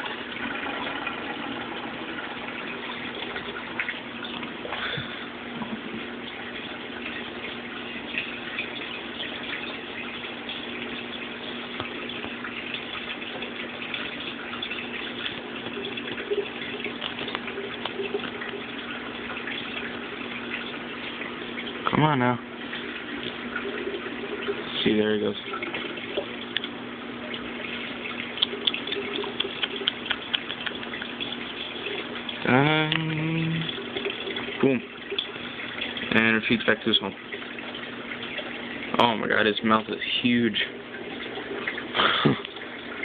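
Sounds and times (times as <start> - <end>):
aquarium water rushing and splashing: 0.0 - 43.0
low steady hum: 0.0 - 43.0.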